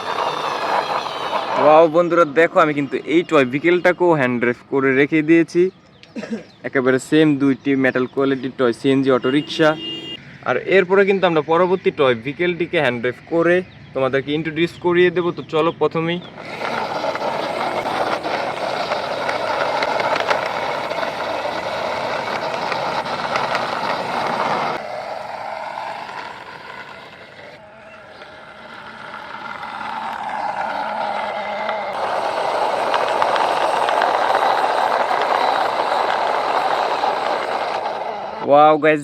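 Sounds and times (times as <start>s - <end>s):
heavy vehicle engine rumbling: 0.0s - 4.6s, 8.6s - 38.5s.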